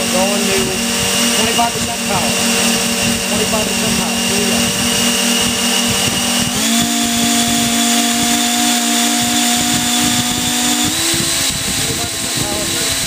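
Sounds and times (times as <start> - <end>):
electric fans whining: 0.0 - 13.0.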